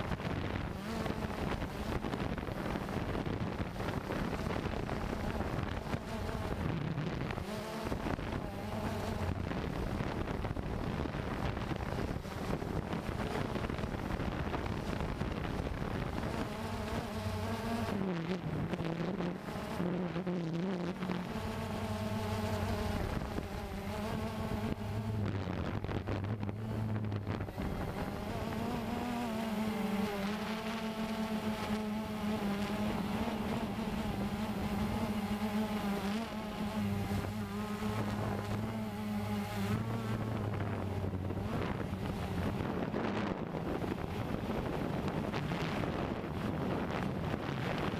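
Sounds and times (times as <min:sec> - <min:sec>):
drone motors buzzing: 0:00.0 - 0:47.9
wind noise: 0:00.0 - 0:47.9.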